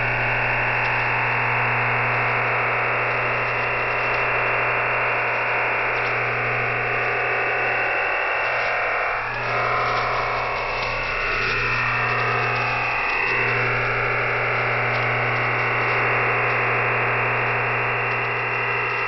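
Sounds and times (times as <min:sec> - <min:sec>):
digital radio data hiss: 0:00.0 - 0:19.0
steady low hum: 0:00.0 - 0:19.0.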